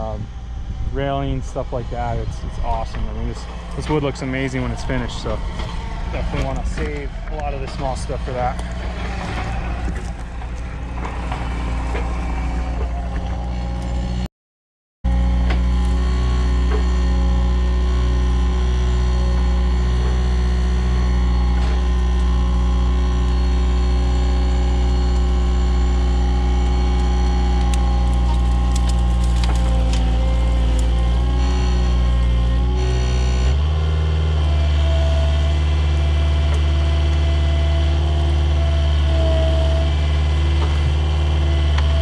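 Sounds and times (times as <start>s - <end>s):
diesel engine running: 0.0s - 14.3s, 15.1s - 42.0s.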